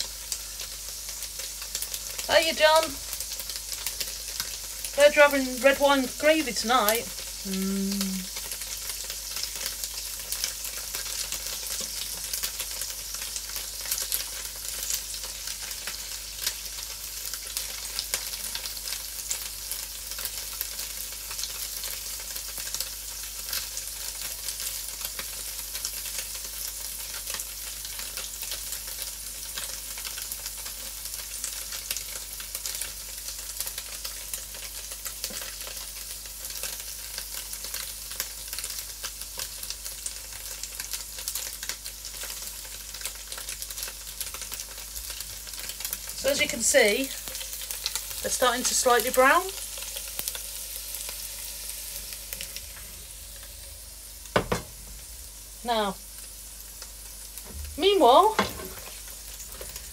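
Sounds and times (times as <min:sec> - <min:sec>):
tofu sizzling in oil: 0:00.0 - 0:59.9.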